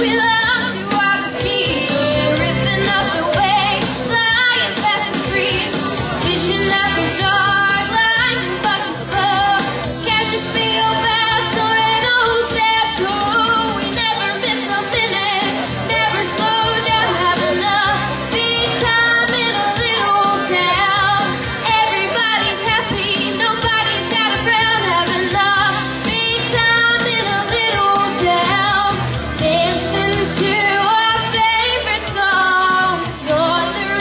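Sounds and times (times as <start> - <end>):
woman singing into a microphone: 0.0 - 34.0.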